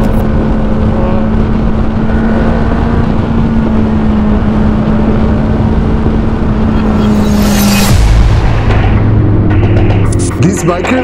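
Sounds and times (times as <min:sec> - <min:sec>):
motorcycle engine cruising: 0:00.0 - 0:10.3.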